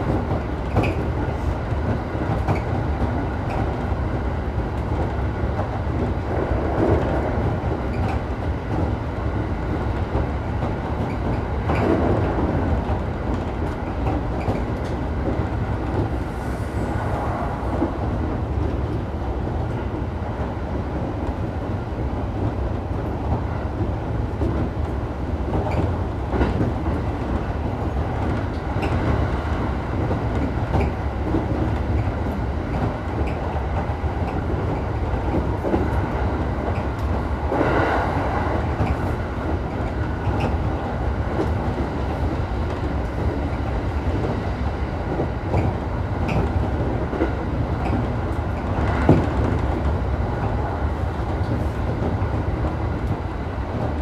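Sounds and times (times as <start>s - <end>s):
train rumble inside car: 0.0s - 54.0s.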